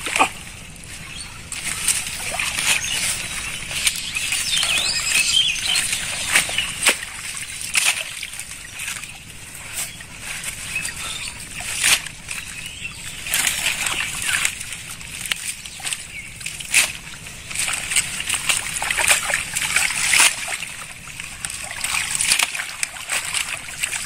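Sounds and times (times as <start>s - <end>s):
hands splashing in muddy water: 1.5s - 12.5s, 15.4s - 24.0s.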